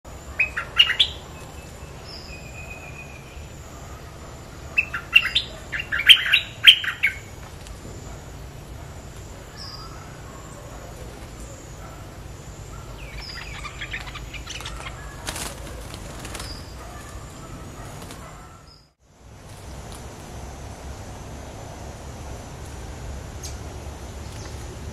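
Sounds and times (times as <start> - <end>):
bulbuls chirping: 0.1 - 24.9
steady low hum: 0.1 - 24.9.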